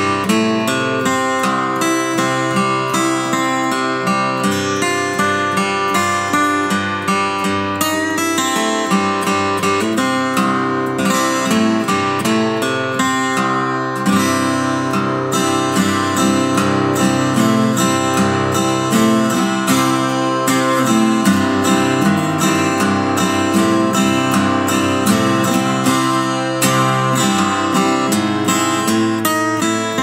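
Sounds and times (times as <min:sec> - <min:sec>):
fingerstyle acoustic guitar: 0:00.0 - 0:30.0.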